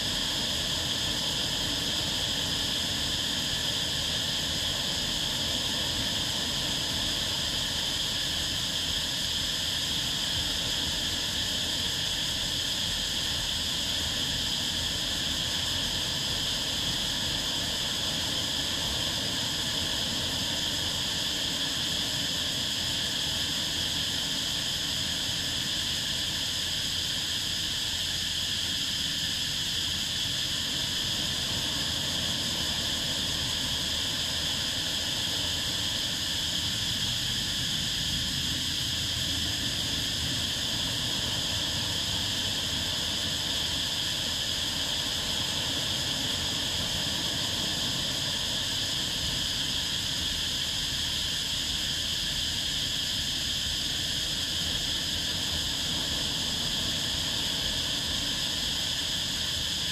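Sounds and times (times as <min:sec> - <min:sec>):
high-pitched insect chorus: 0:00.0 - 0:59.9
wind: 0:00.0 - 0:59.9.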